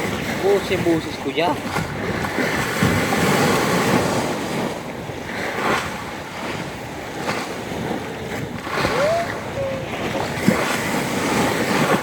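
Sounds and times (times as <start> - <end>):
rough sea waves surging: 0.0 - 12.0
wind on microphone: 0.0 - 12.0.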